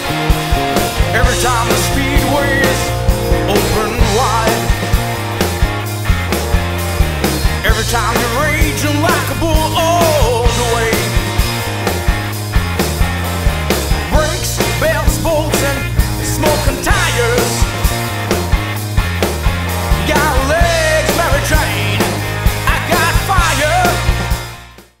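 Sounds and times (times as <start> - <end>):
rock song with singer: 0.0 - 24.7.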